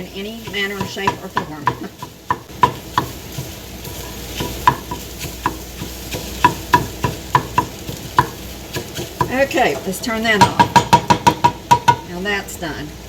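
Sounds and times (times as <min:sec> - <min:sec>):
eggs sizzling in a frying pan: 0:00.0 - 0:13.0
utensil tapping against pan: 0:00.2 - 0:12.1.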